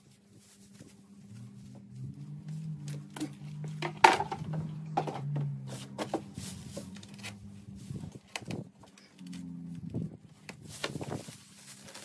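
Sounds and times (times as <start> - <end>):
grass rustling and crackling: 0.0 - 12.0.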